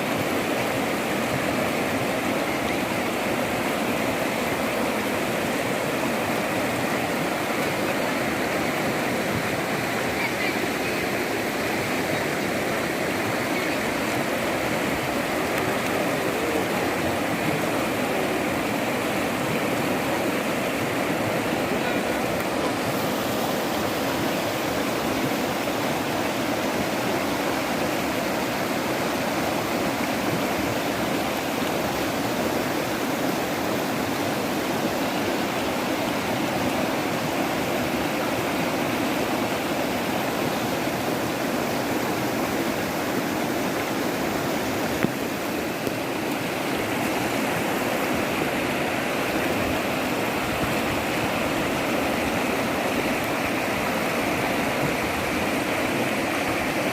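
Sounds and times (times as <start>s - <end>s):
rushing floodwater: 0.0s - 56.9s.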